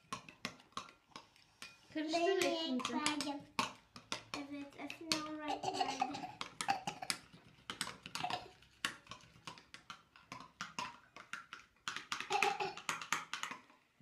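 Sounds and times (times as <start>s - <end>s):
spoons clinking and scraping glass: 0.0s - 13.8s.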